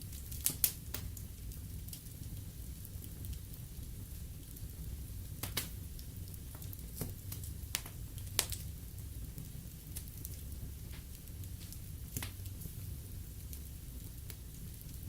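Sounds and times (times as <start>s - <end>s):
fire crackling and popping: 0.0s - 15.0s
fire low rumble: 0.0s - 15.0s.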